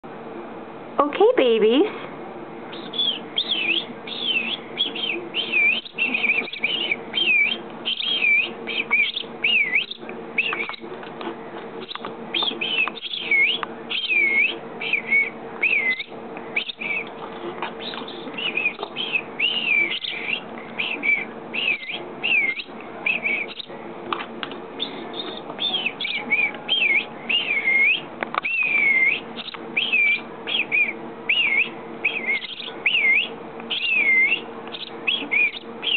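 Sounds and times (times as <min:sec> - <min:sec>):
steady low hum: 0:00.0 - 0:35.9
nestling sparrows chirping: 0:02.7 - 0:35.9.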